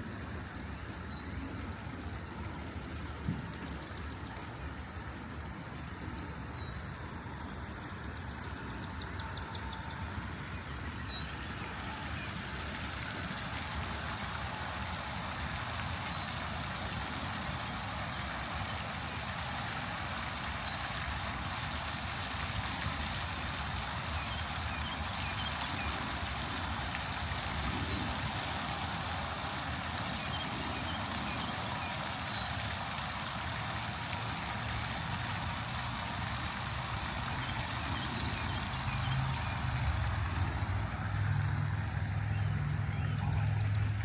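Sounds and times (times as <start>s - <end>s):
outdoor noise wash: 0.0s - 44.0s.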